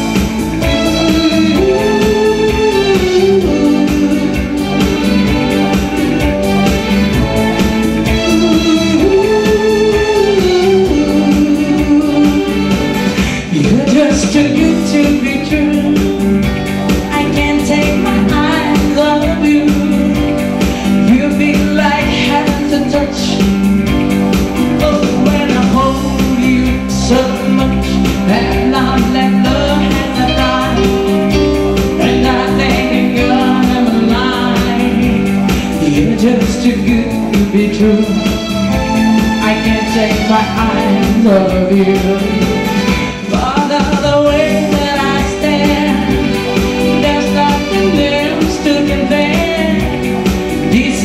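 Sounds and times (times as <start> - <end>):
pop backing music with beat: 0.0 - 51.0
woman singing into a microphone: 0.0 - 51.0.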